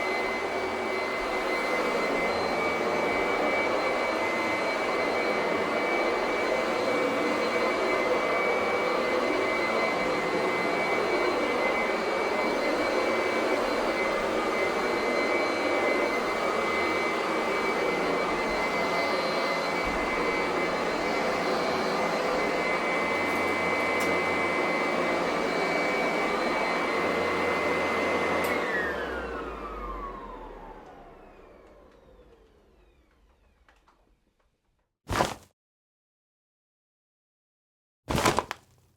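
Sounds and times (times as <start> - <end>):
vacuum cleaner running: 0.0 - 34.3.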